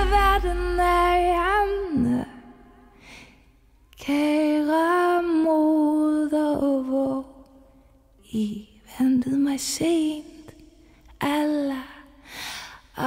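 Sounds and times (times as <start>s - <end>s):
woman singing a ballad: 0.0s - 2.9s, 3.9s - 13.0s.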